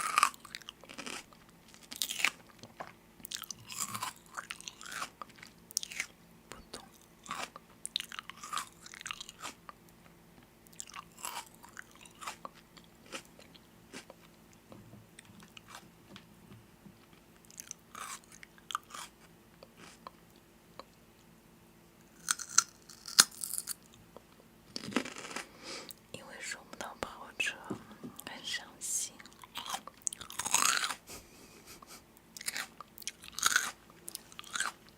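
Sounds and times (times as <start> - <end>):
crunchy chewing of food: 0.0 - 16.0, 17.0 - 21.3, 22.0 - 26.0, 29.2 - 31.1, 31.7 - 34.9.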